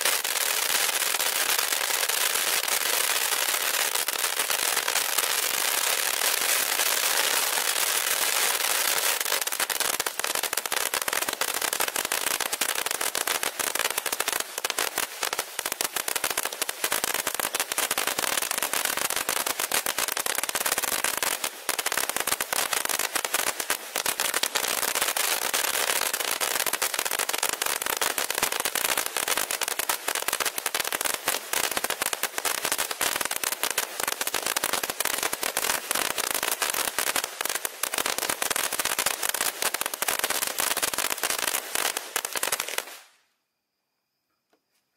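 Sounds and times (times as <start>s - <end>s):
firework fountain hissing and crackling: 0.0s - 43.2s.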